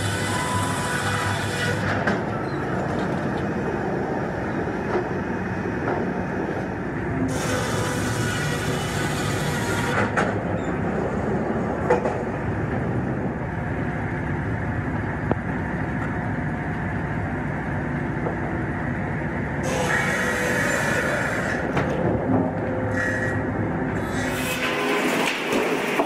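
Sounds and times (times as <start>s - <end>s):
conveyor machinery running: 0.0s - 26.0s.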